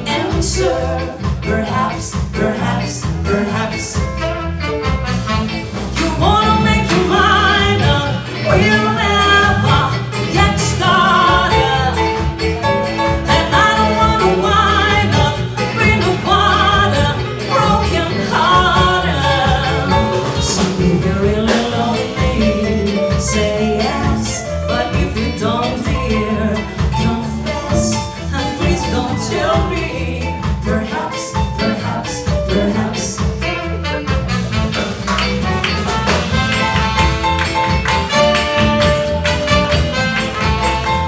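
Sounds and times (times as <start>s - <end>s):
bass line: 0.0s - 41.0s
jazz band playing: 0.0s - 41.0s.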